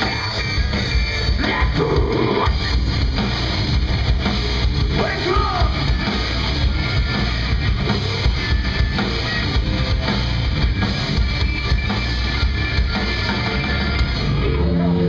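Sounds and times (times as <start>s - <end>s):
metal band playing live: 0.0s - 15.0s.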